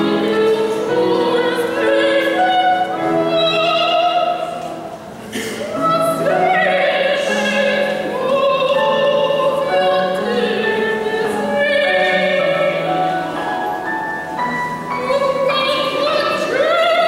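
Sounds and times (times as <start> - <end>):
choir singing sacred music: 0.0 - 17.0.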